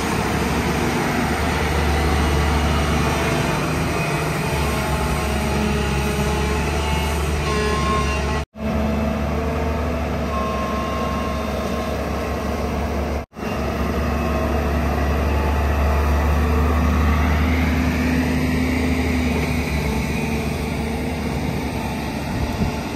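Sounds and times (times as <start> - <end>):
excavator diesel engine: 0.0 - 22.9.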